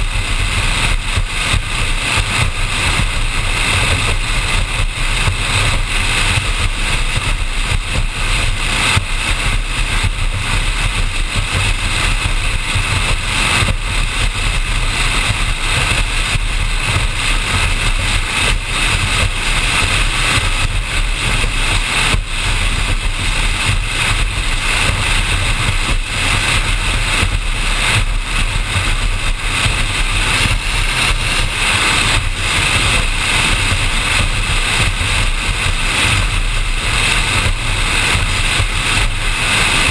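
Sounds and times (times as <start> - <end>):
boat engine drone: 0.0 - 39.9
wind and water rushing: 0.0 - 39.9.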